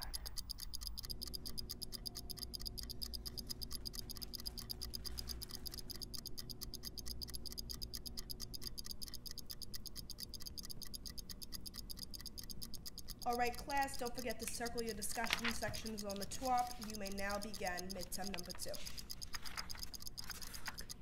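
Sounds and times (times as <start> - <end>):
clock ticking fast: 0.0 - 21.0
faint low hum: 0.0 - 21.0.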